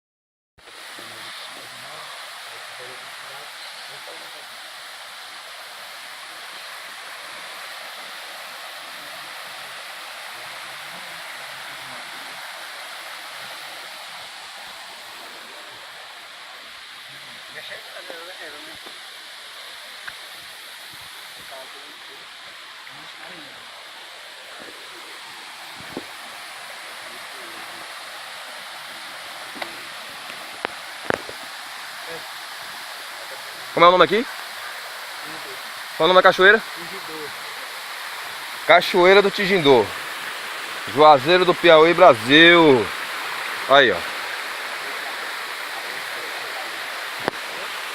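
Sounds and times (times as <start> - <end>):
waterfall rushing: 0.6 - 47.9.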